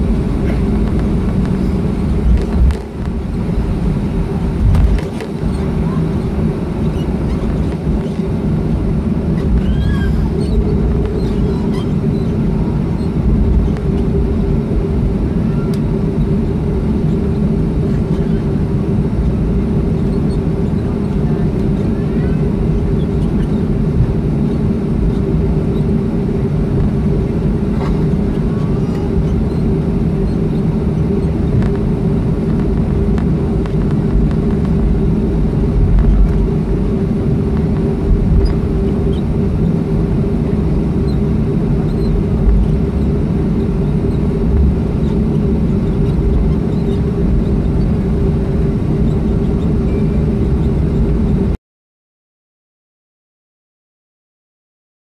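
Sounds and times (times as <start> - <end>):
vehicle engine droning: 0.0 - 51.6.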